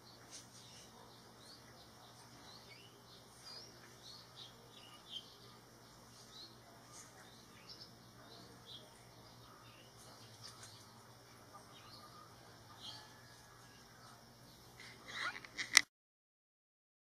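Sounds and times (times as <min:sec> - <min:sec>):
faint low hum: 0:00.0 - 0:15.8.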